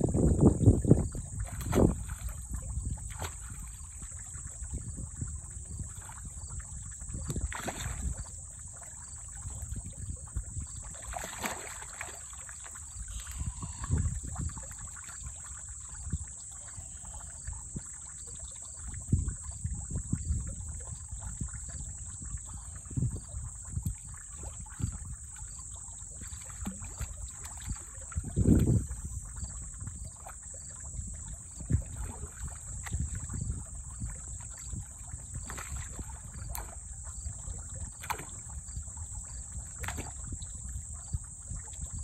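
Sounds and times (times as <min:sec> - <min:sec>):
turtles splashing in water: 0:00.6 - 0:19.3, 0:20.3 - 0:42.0.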